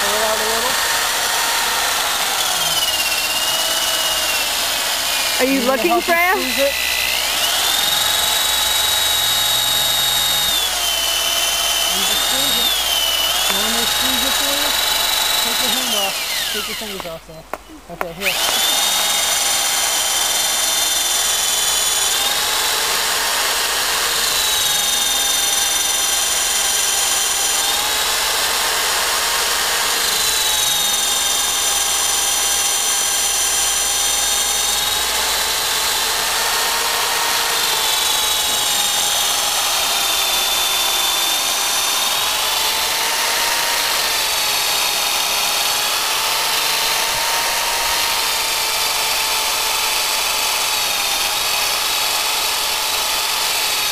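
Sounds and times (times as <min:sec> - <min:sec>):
cordless drill whining: 0:00.0 - 0:53.9.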